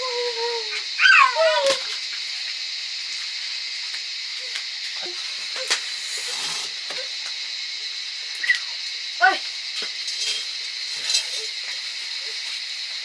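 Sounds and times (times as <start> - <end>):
wood fire hissing: 0.0 - 13.0
fire crackles: 1.9 - 13.0.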